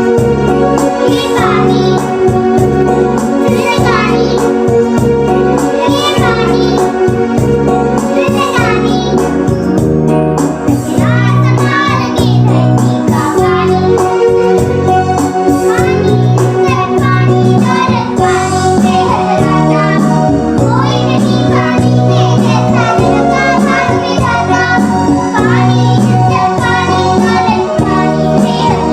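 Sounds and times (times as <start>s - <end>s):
children singing: 0.0s - 9.5s, 10.7s - 14.6s, 15.2s - 28.9s
music with repeating bass: 0.0s - 28.9s.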